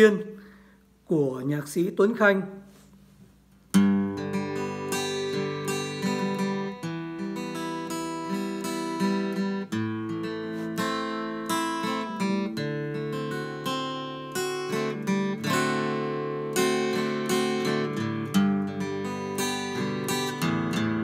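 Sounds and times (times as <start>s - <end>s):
acoustic guitar picked and strummed: 2.7s - 21.0s.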